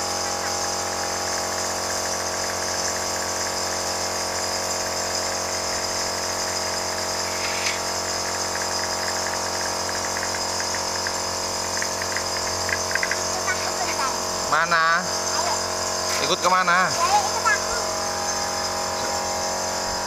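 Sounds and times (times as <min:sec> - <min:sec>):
small machine motor humming: 0:00.0 - 0:20.0.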